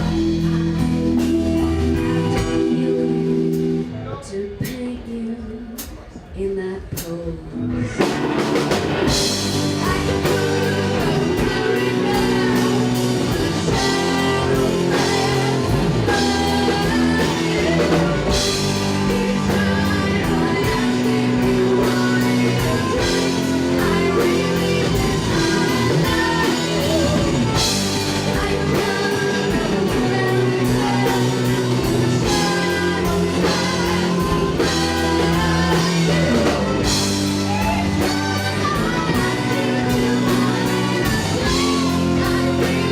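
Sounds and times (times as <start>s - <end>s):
drum kit beat: 0.0s - 3.9s, 6.9s - 42.9s
electric guitar: 0.0s - 4.6s, 7.5s - 42.9s
person singing: 0.0s - 42.9s.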